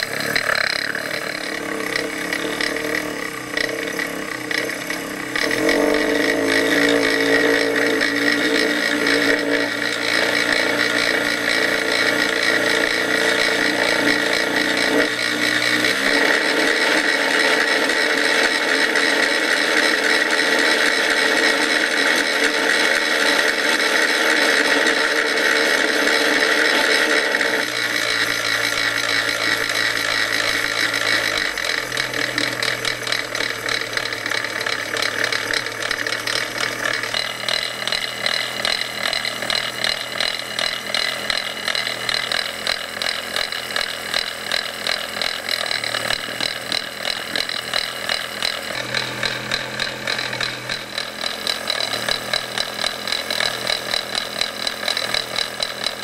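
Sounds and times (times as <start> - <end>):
electric motor humming: 0.0 - 56.0.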